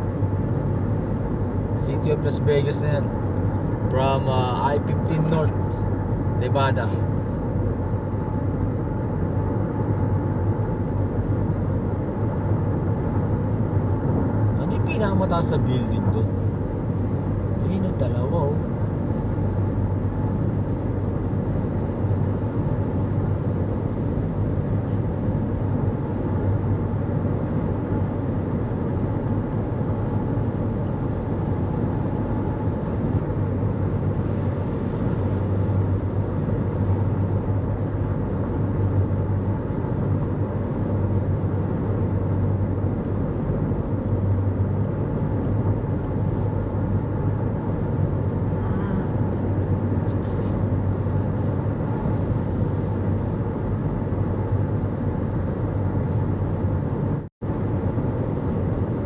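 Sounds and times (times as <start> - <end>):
constant low hum: 0.0 - 59.0
road and tyre noise in car: 0.0 - 59.0.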